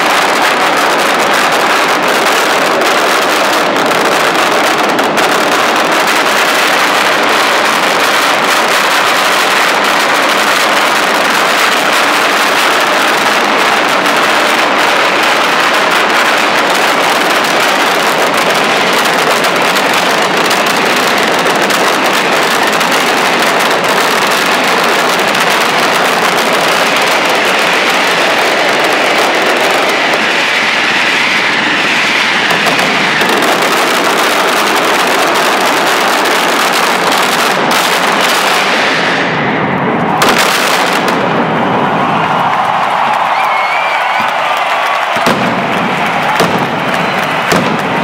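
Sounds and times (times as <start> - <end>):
firecrackers exploding in a barrage: 0.0 - 48.0.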